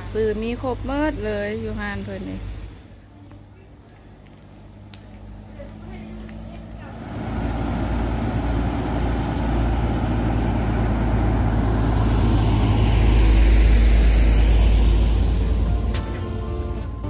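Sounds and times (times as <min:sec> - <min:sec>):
truck passing by: 0:00.0 - 0:17.0.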